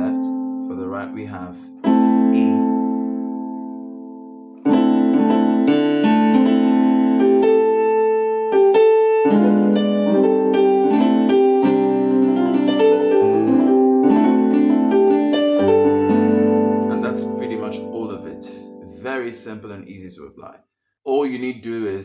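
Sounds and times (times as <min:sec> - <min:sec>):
piano chord progression: 0:00.0 - 0:20.0.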